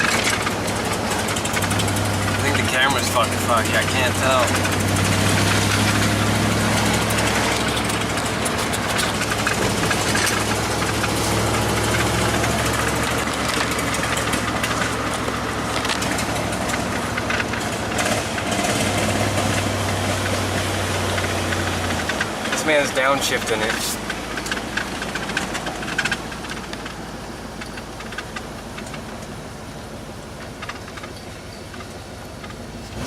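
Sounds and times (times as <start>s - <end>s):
constant low hum: 0.0s - 33.0s
road noise: 0.0s - 33.0s
vehicle engine drone: 0.0s - 33.0s.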